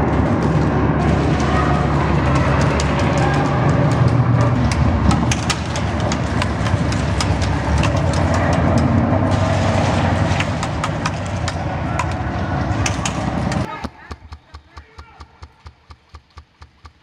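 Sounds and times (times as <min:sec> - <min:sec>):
steady low rumble: 0:00.0 - 0:14.6
airsoft guns firing: 0:00.0 - 0:16.9.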